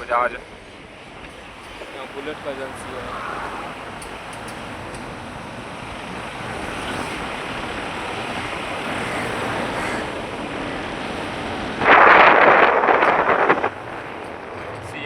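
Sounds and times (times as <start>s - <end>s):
loud rush of noise: 0.0s - 15.0s
road and wind noise: 0.0s - 15.0s.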